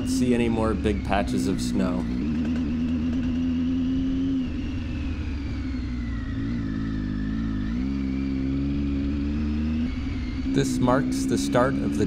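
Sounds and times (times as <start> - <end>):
faint high whine: 0.0 - 12.0
motorcycle engine running: 0.0 - 12.0.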